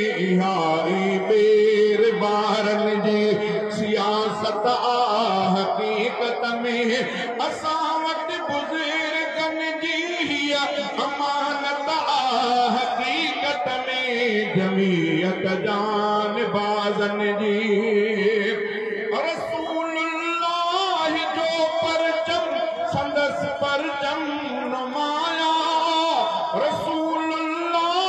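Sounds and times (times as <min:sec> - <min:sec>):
man chanting through loudspeakers: 0:00.0 - 0:28.0.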